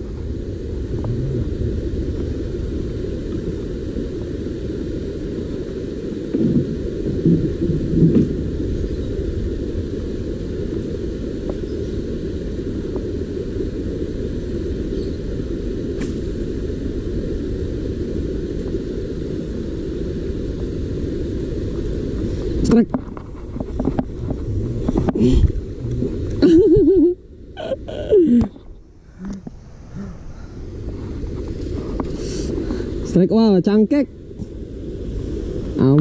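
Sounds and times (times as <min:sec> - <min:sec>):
low rumble: 0:00.0 - 0:36.0.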